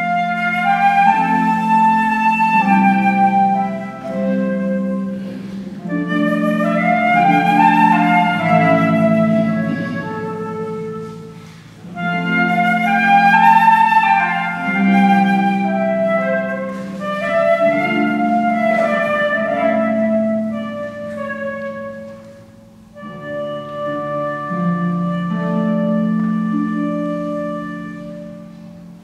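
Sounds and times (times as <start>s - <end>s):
flute playing a melody: 0.0s - 29.0s
harp accompaniment: 0.0s - 29.0s.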